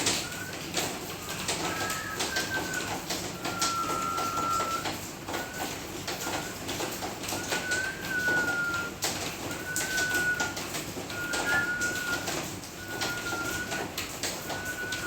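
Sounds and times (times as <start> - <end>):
myna whistling: 0.1 - 6.6, 7.3 - 8.9, 9.5 - 10.5, 11.1 - 13.9, 14.5 - 15.0.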